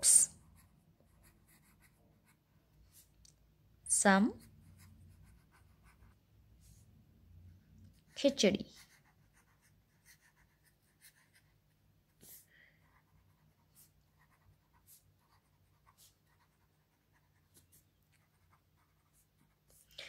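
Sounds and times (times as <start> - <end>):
marker pen scratching paper: 0.0 - 3.2, 4.1 - 6.8, 7.9 - 19.9.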